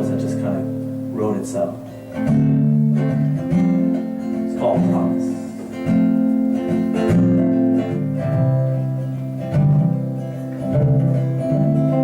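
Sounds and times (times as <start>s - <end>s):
acoustic guitar strummed chords: 0.0s - 12.0s.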